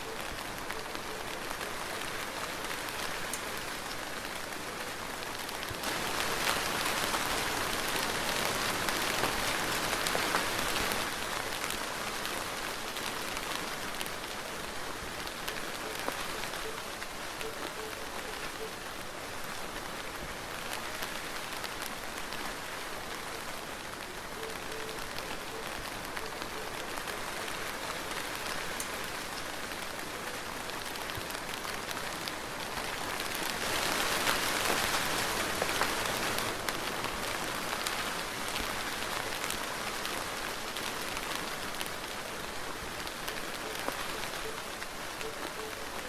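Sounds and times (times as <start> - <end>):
soft rain falling: 0.0 - 46.0.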